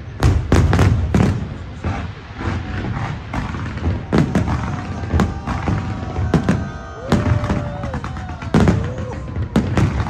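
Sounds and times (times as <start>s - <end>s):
fireworks booming: 0.0s - 10.0s
fireworks crackle: 0.0s - 10.0s.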